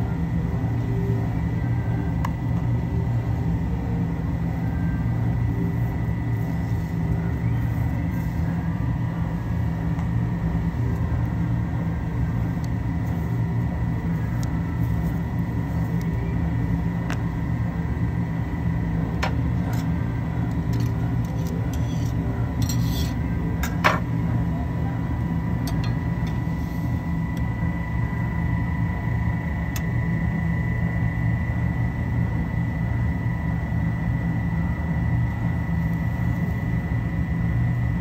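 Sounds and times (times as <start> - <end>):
faint high whine: 0.0 - 38.0
machinery hum: 0.0 - 38.0.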